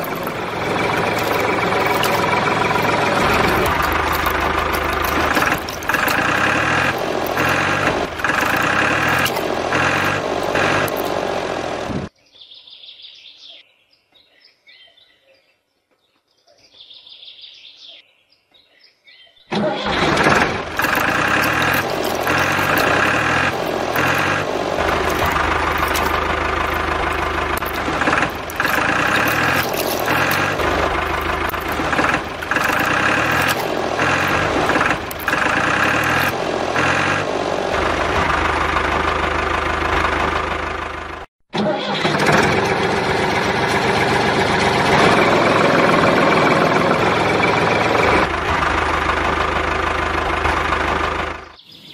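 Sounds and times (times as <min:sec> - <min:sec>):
engine running with pulse: 0:00.0 - 0:12.1, 0:19.5 - 0:51.6.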